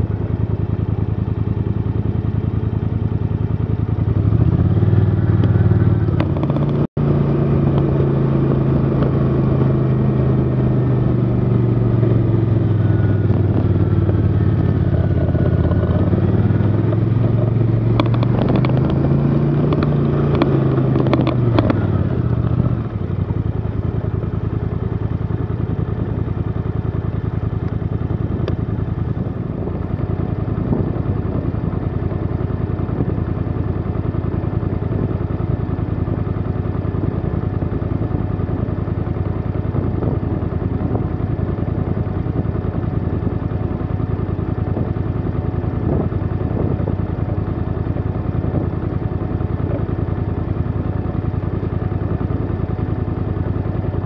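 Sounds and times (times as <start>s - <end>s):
snowmobile engine idling: 0.0s - 18.4s, 19.6s - 54.0s.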